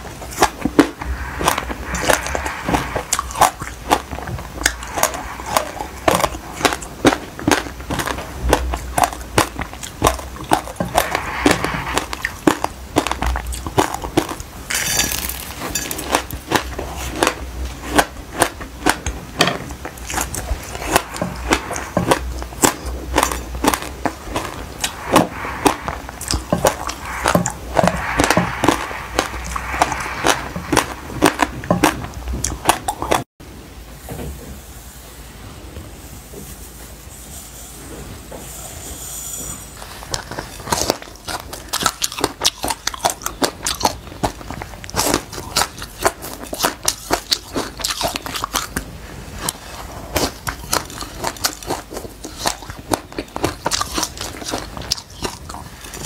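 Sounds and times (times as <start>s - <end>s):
crunchy chewing: 0.0s - 33.3s, 39.8s - 56.0s.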